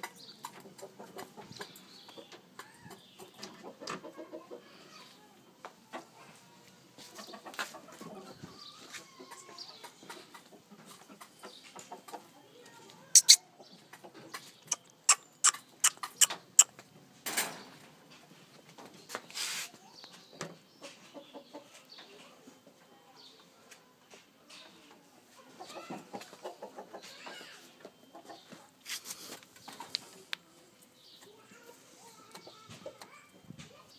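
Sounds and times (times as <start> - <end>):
chickens clucking: 0.0 - 17.1, 17.7 - 23.8, 24.4 - 33.9.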